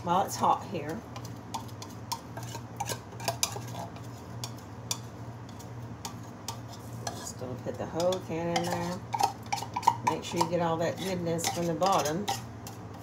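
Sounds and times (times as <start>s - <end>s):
low steady hum: 0.0s - 13.0s
metal spoon clinking and scraping: 1.1s - 13.0s.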